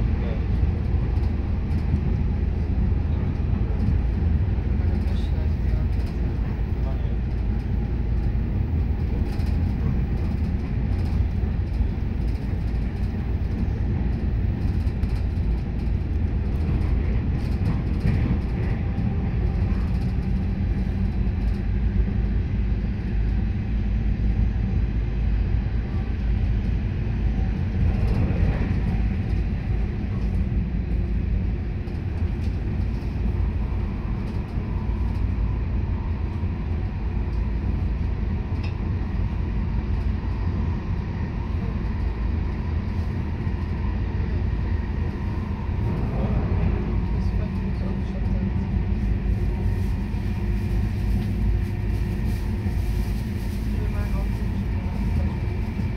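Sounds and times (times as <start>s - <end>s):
wheels rumbling on rails: 0.0s - 55.9s.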